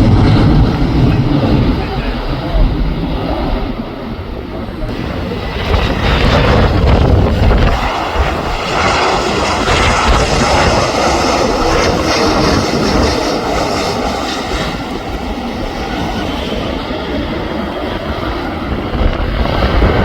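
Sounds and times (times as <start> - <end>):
jet airliner roaring past: 0.0 - 20.0
wind buffeting microphone: 0.0 - 20.0.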